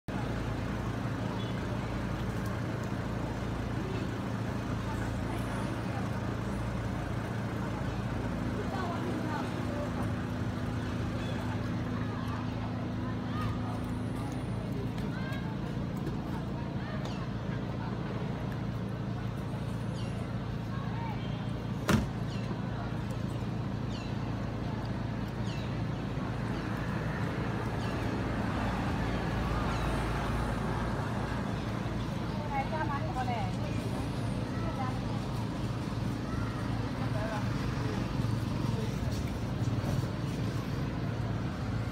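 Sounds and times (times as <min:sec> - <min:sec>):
vehicle engine idling: 0:00.1 - 0:41.9.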